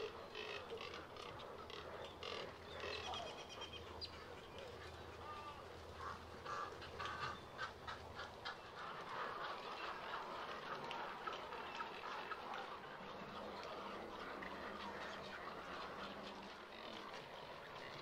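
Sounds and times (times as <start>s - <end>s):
birds chattering calls: 0.0s - 18.0s.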